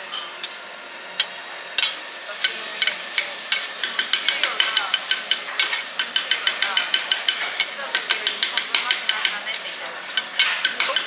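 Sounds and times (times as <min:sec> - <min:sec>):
steady sizzle: 0:00.0 - 0:11.0
metal spatulas on iron griddle: 0:01.2 - 0:11.0.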